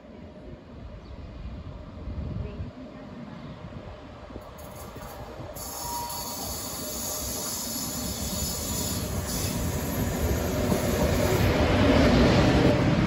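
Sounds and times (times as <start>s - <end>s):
high-speed train passing: 0.0s - 13.0s.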